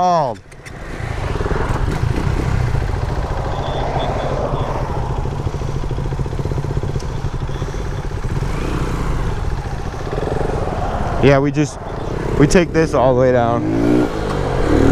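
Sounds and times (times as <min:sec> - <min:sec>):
motorcycle engine running: 0:00.4 - 0:14.9.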